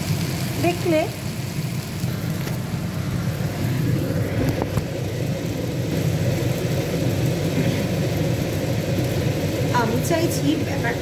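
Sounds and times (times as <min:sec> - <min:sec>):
exhaust fan whirring: 0:00.0 - 0:11.0
food sizzling in a pan: 0:00.0 - 0:11.0.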